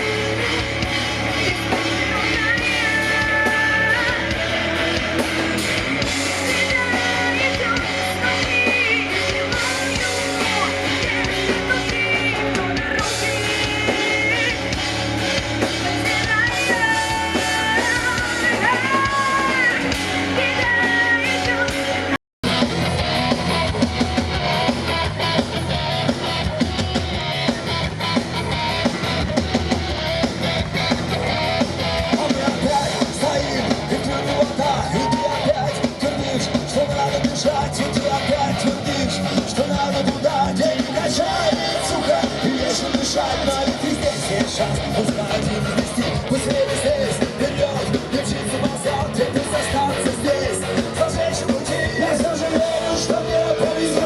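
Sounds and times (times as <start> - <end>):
rock music: 0.0 - 54.0.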